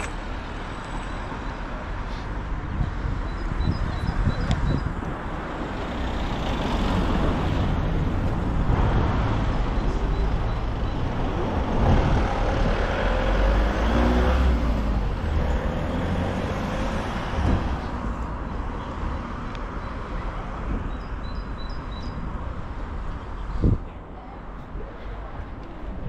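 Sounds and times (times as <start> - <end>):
cars driving by: 0.0 - 26.0.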